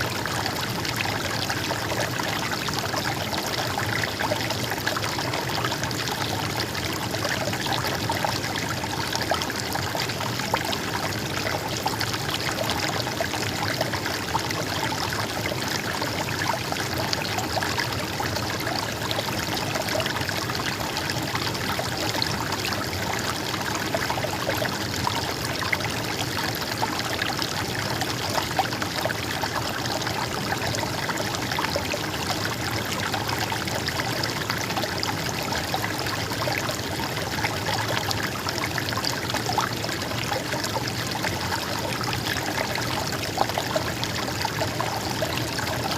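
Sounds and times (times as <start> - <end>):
stream babbling and trickling: 0.0 - 45.9.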